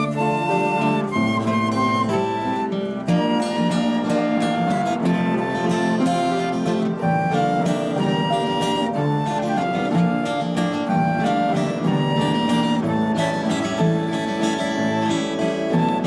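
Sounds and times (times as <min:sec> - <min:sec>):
acoustic guitar strumming: 0:00.0 - 0:16.0
held-note melody: 0:00.0 - 0:16.0.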